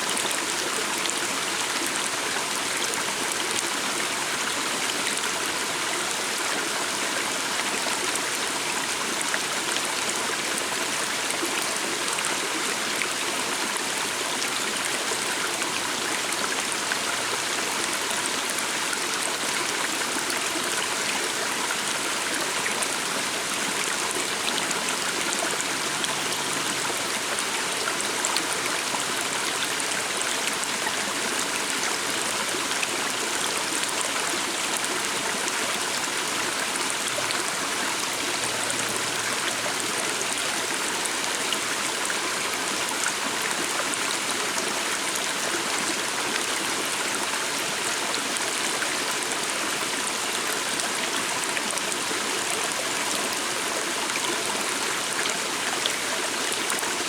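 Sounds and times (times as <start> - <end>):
stream running over stones: 0.0 - 57.0.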